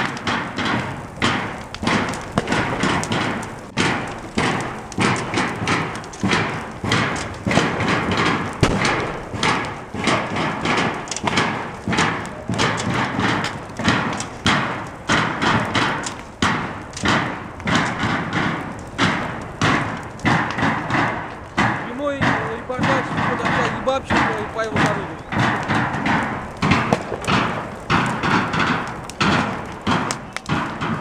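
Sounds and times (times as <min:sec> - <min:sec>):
rhythmic ringing banging: 0:00.0 - 0:31.0.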